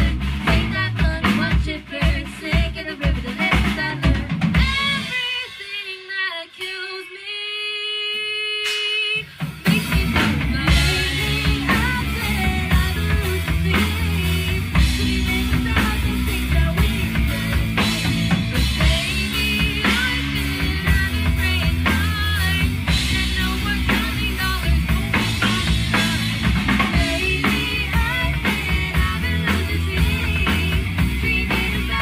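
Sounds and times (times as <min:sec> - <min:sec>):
rock band playing: 0:00.0 - 0:06.8, 0:09.2 - 0:32.0
woman singing: 0:00.0 - 0:32.0.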